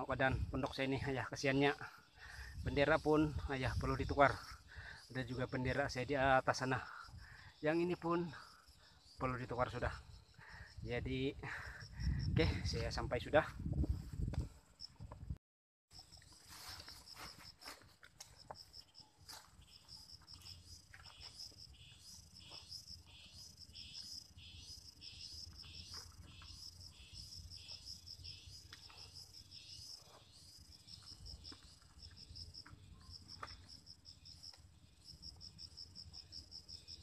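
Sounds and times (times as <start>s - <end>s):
insects chirping: 0.0s - 37.0s.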